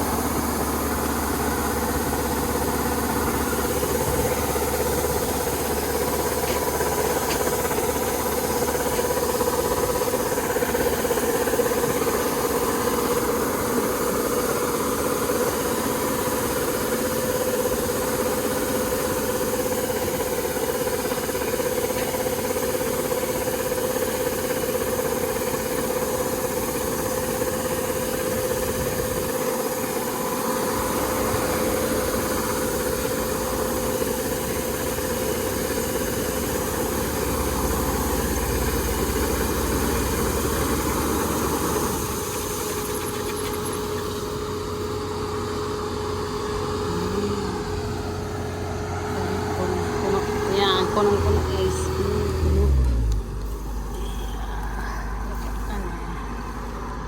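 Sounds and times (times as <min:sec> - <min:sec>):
combine harvester humming and whining: 0:00.0 - 0:57.0.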